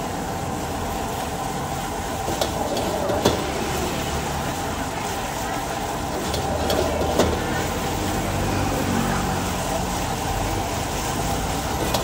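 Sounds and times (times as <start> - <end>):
gas burner rushing: 0.0 - 12.0.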